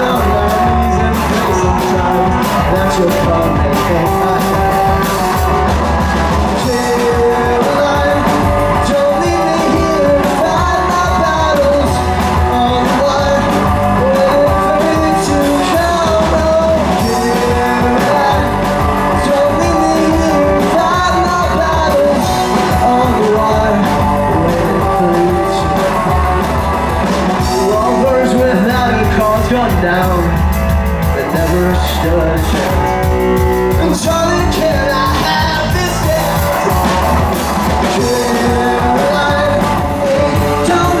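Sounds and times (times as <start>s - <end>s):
live rock band playing: 0.0s - 41.0s
person singing: 0.0s - 41.0s.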